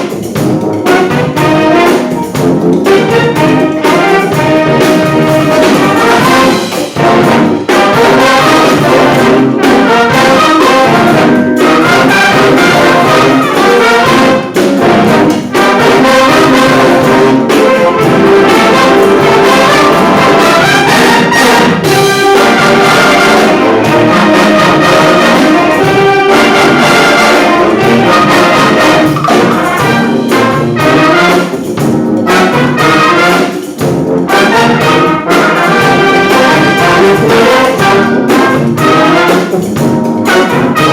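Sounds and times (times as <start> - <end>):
brass wind band playing loudly: 0.0 - 40.9.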